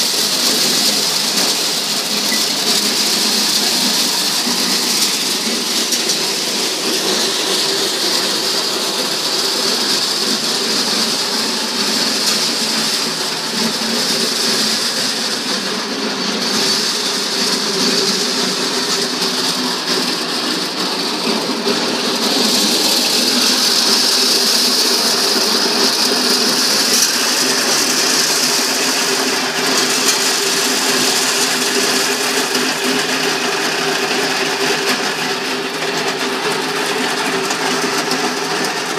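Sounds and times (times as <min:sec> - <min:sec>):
corn sheller running: 0:00.0 - 0:38.9.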